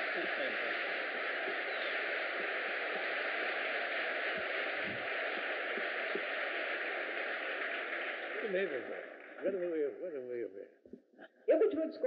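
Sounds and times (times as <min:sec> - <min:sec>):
audience applause: 0:00.0 - 0:10.4.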